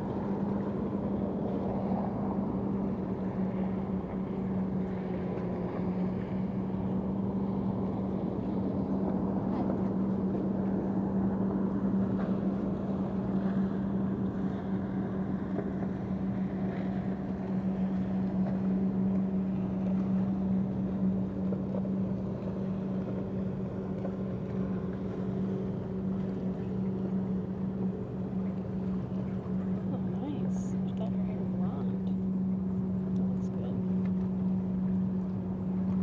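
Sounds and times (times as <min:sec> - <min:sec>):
engine drone: 0:00.0 - 0:36.0
low background rumble: 0:00.0 - 0:36.0.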